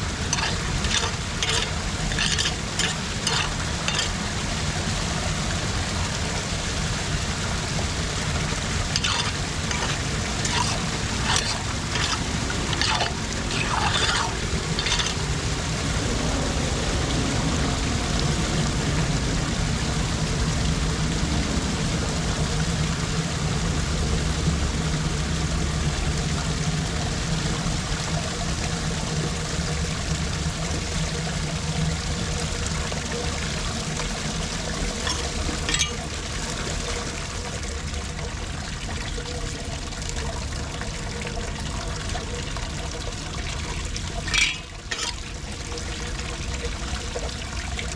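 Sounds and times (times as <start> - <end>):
water pouring into storm drain: 0.0 - 47.9.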